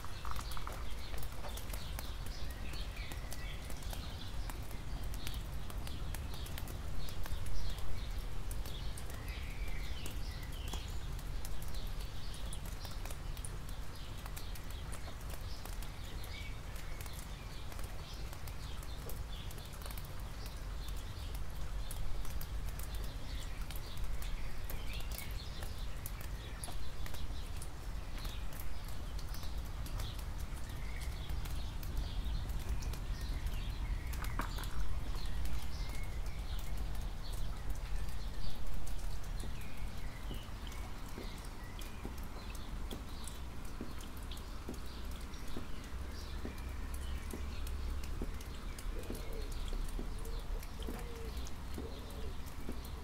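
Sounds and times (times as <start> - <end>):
birds chirping: 0.0 - 53.0
rain dripping on asphalt: 0.0 - 53.0.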